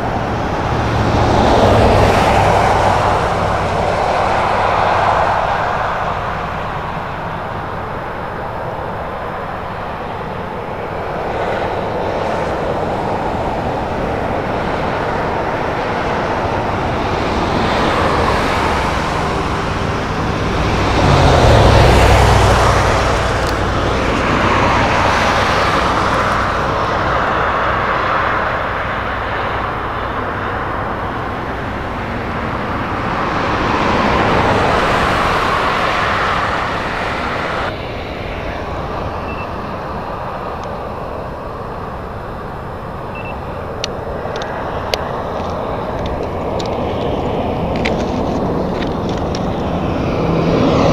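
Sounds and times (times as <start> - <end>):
deep traffic rumble: 0.0 - 50.9
vehicles passing on highway: 0.0 - 50.9.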